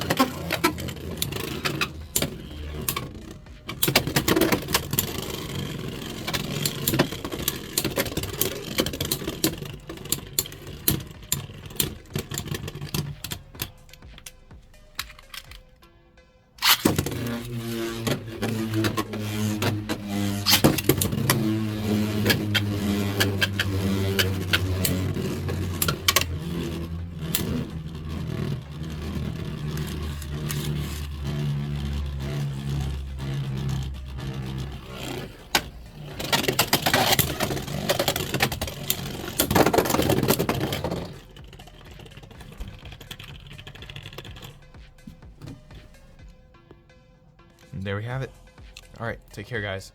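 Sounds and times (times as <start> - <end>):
spinning tops whirring: 0.0 - 15.9, 16.6 - 46.6.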